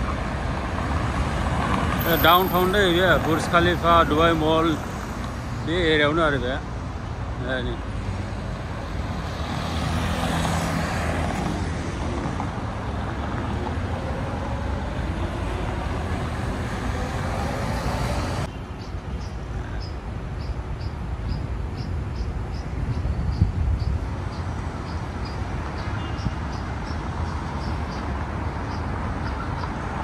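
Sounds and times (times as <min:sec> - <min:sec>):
road traffic going by: 0:00.0 - 0:30.0.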